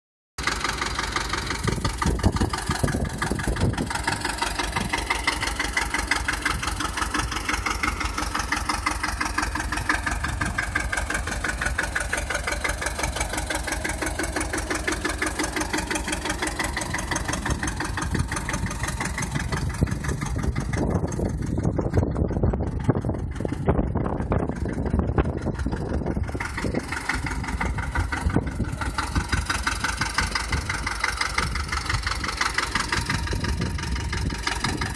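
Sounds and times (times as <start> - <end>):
tractor diesel engine idling: 0.4 - 34.9.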